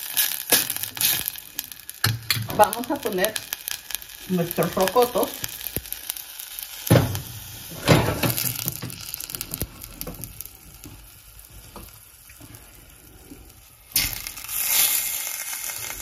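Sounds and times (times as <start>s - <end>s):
sauce sizzling in a saucepan: 0.0s - 16.0s.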